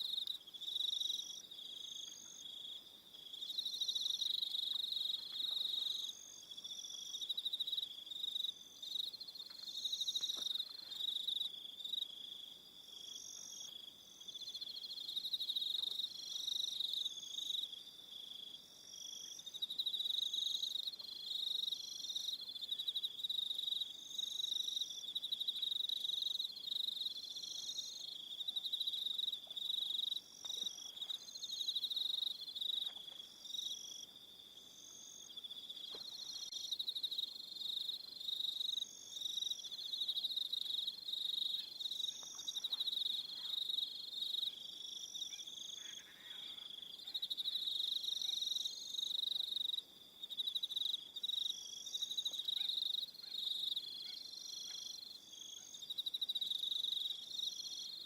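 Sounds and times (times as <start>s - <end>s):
fast high cricket chirps: 0.0s - 58.0s.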